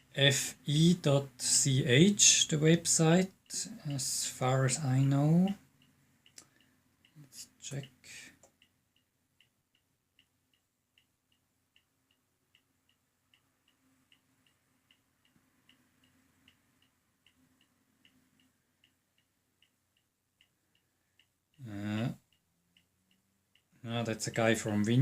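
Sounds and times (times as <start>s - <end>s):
faint ticking clock: 0.0s - 25.0s.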